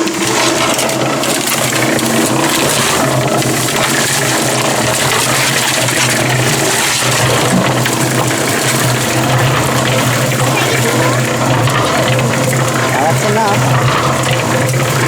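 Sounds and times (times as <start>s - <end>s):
concrete mixer motor humming: 0.0s - 15.0s
sand tumbling in drum: 0.0s - 15.0s.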